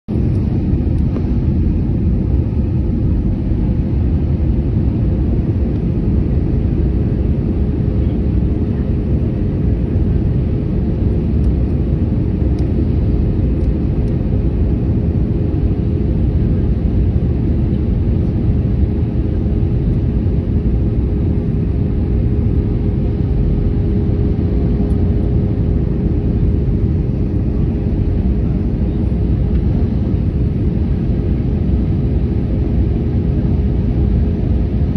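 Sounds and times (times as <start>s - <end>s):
airplane engines rumbling: 0.1s - 34.9s
constant cabin hum: 0.1s - 34.9s.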